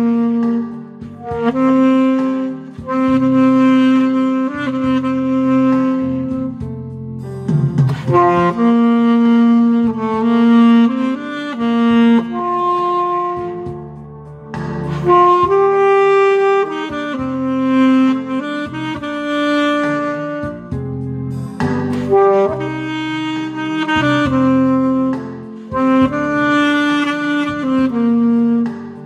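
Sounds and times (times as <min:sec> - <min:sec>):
backing accompaniment: 0:00.0 - 0:29.0
saxophone melody: 0:00.0 - 0:29.0.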